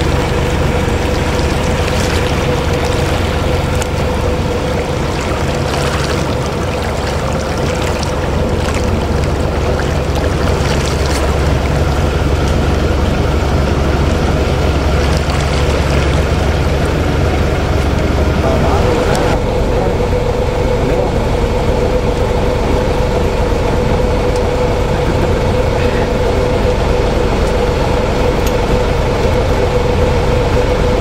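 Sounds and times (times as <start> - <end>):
boat engine droning: 0.0 - 31.0
water rushing: 0.0 - 31.0
wind: 0.0 - 31.0.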